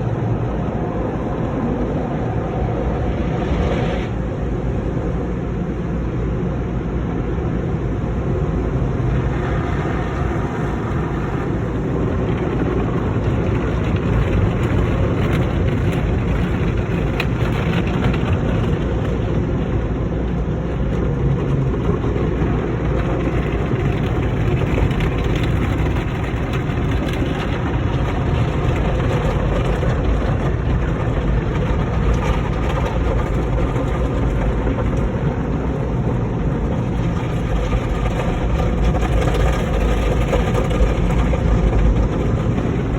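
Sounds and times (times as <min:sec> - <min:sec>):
car wash rushing and rumbling: 0:00.0 - 0:42.9
car engine idling: 0:06.9 - 0:42.9.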